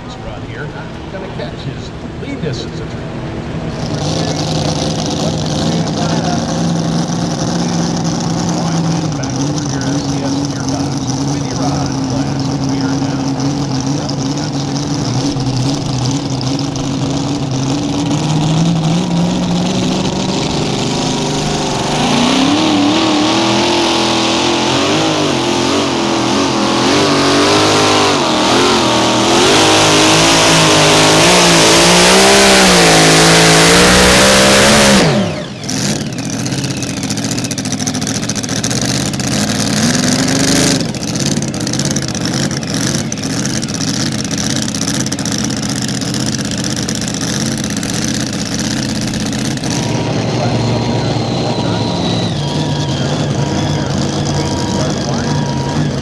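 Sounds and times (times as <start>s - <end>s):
tractor engine revving under load: 0.0s - 56.0s.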